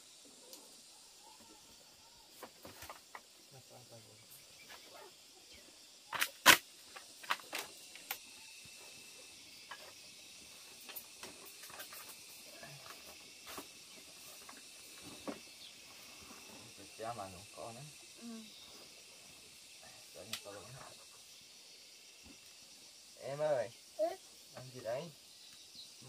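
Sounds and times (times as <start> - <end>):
faint high insect drone: 0.0 - 26.0.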